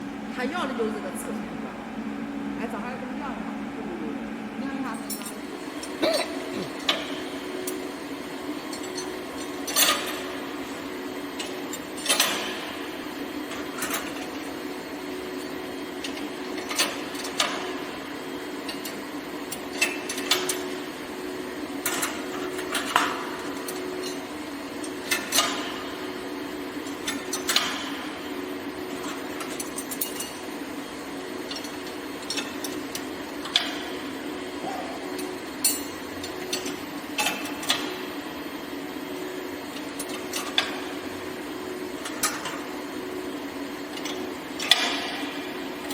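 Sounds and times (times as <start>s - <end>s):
welding machine humming: 0.0s - 45.9s.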